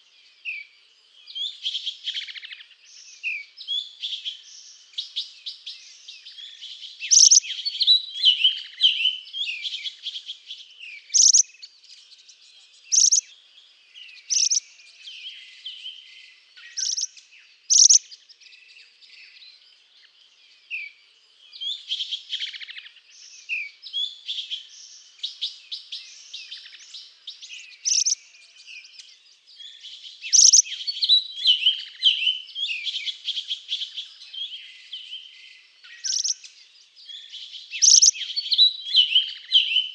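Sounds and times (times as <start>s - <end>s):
songbirds twittering and chirping: 0.0s - 39.9s.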